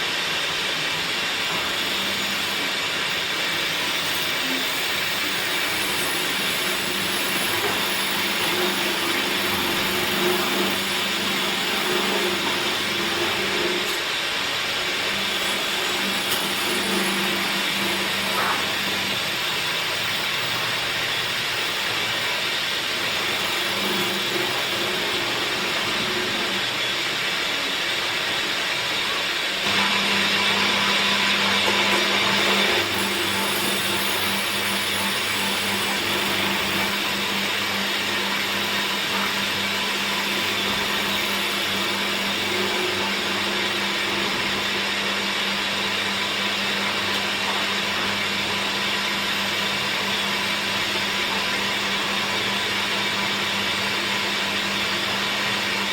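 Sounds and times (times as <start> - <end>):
woodworking machine running: 0.0 - 55.9.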